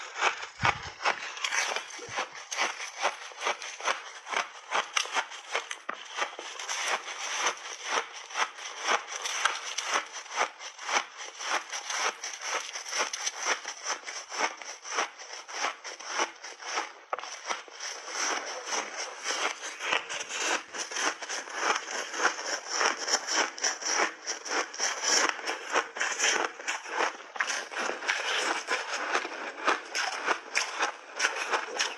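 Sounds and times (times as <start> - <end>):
chewing ice and frozen berries: 0.0 - 31.9.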